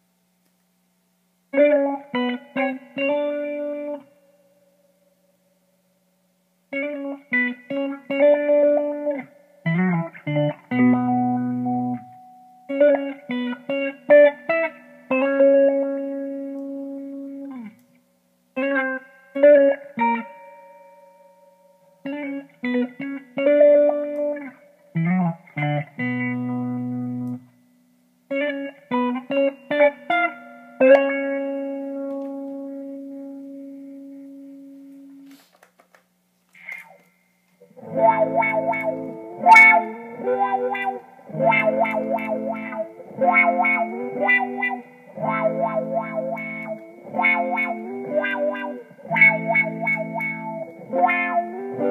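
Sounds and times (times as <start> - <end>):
faint steady hum: 0.0 - 51.9
guitar picked phrases: 1.5 - 4.2, 6.7 - 17.8, 18.6 - 20.9, 22.0 - 27.6, 28.3 - 35.4, 37.6 - 51.9.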